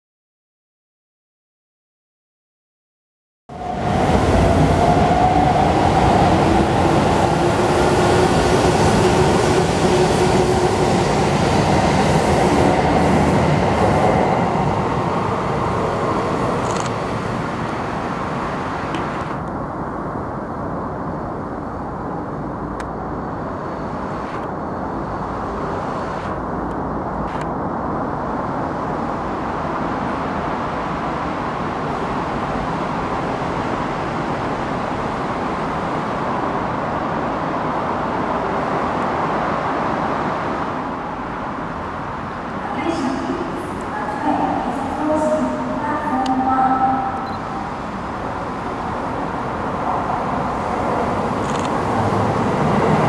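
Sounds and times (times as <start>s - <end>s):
train rumbling along track: 3.5s - 53.0s.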